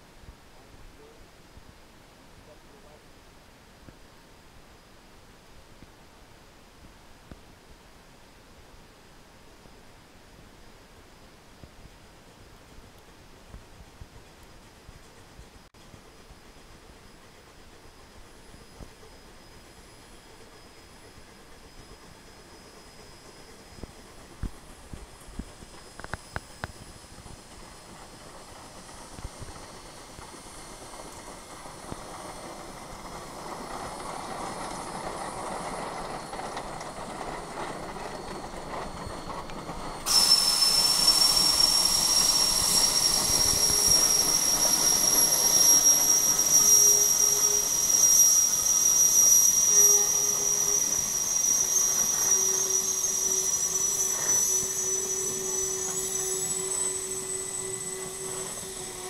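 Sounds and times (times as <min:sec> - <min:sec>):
high-pitched steam hiss: 0:07.3 - 0:59.0
steam locomotive running: 0:08.8 - 0:59.0.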